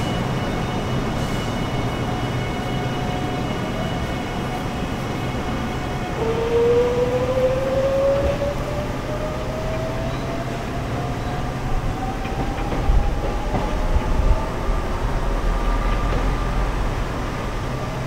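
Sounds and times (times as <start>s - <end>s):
electric train motor whine: 0.0s - 18.0s
rail clacks: 0.0s - 18.0s.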